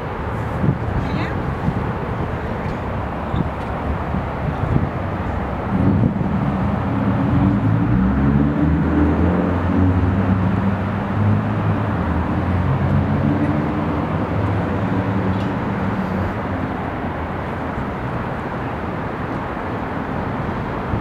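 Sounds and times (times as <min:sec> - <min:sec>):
heavy vehicle engine hum: 0:00.0 - 0:21.0
road traffic rushing: 0:00.0 - 0:21.0.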